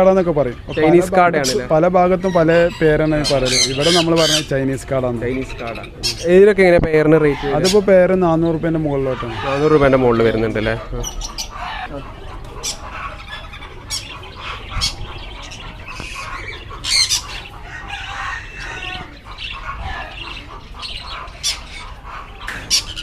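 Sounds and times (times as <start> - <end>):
cage birds squawking and chirping: 0.0 - 23.0.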